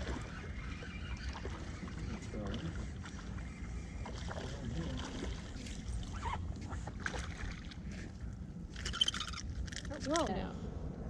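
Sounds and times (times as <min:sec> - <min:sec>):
water lapping against boat: 0:00.0 - 0:10.5.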